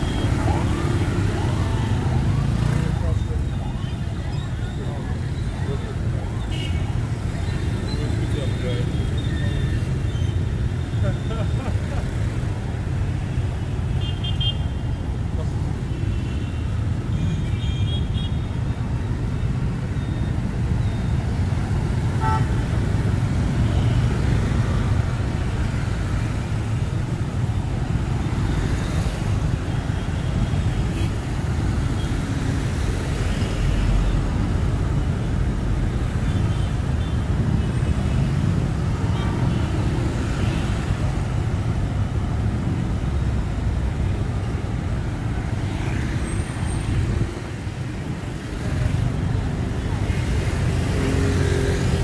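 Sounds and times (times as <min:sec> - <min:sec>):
rumble of passing vehicles: 0:00.0 - 0:52.0.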